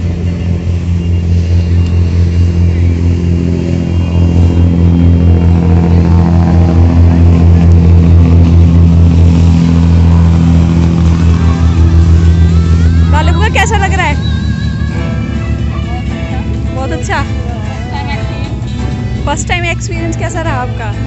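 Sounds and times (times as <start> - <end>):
ferry engine low drone: 0.0 - 21.0.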